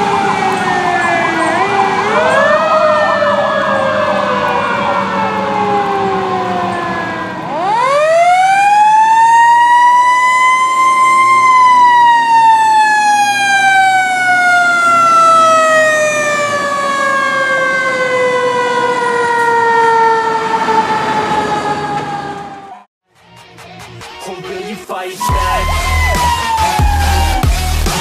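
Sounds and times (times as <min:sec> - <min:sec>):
fire truck siren: 0:00.0 - 0:22.9, 0:25.2 - 0:28.0.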